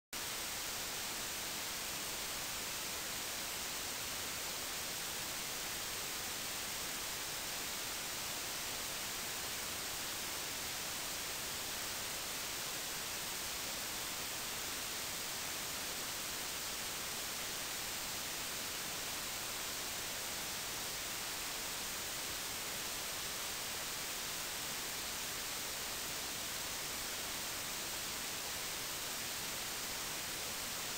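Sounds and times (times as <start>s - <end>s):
static hiss: 0.2s - 30.9s.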